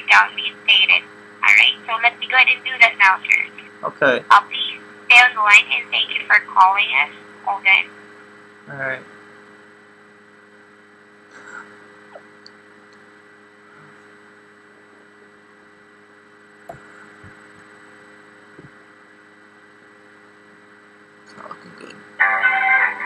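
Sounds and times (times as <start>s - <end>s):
phone line hum and hiss: 0.0s - 23.0s.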